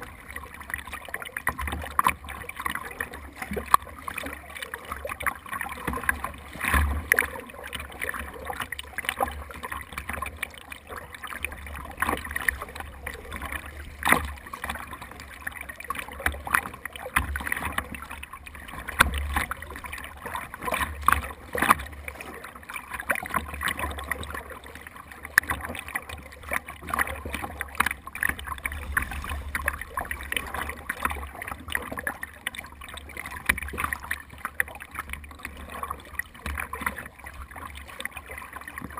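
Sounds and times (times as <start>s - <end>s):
water splashing against kayak: 0.0s - 38.9s.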